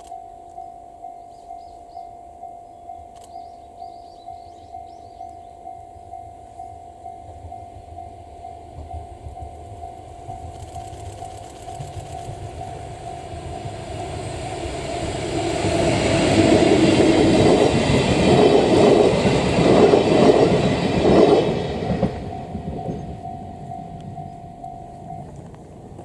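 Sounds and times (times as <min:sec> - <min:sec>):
level crossing warning bell: 0:00.0 - 0:26.0.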